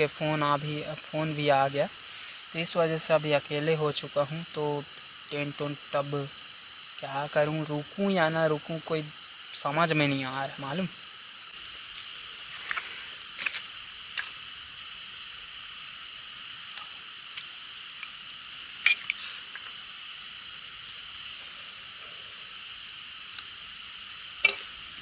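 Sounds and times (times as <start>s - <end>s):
crickets chirping: 0.0s - 25.0s
high insect drone: 0.0s - 25.0s.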